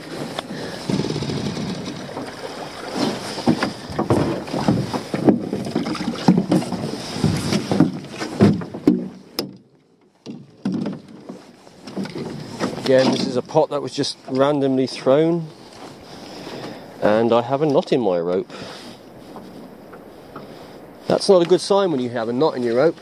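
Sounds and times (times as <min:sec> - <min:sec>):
water splashing against dinghy: 0:00.0 - 0:23.0.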